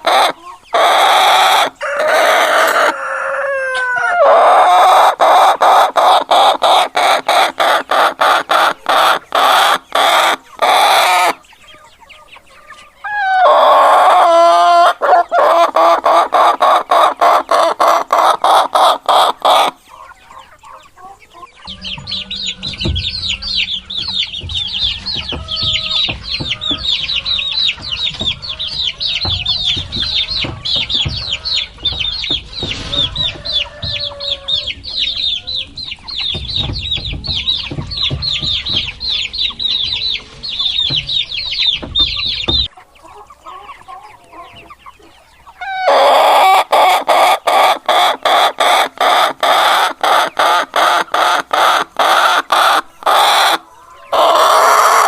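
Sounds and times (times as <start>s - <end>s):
chicks peeping: 0.0s - 55.0s
hens clucking: 0.0s - 55.0s
rapid rhythmic clucking call: 4.3s - 55.0s.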